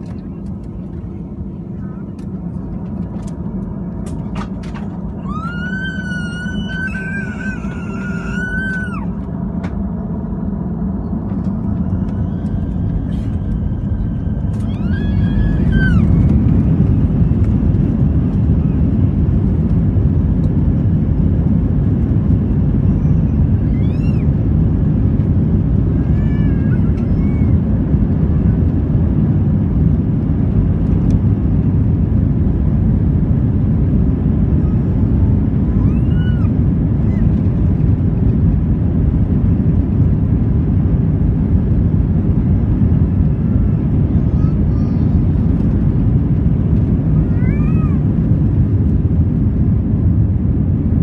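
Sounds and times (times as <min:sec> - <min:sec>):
low rumble of jet engines: 0:00.0 - 0:51.0.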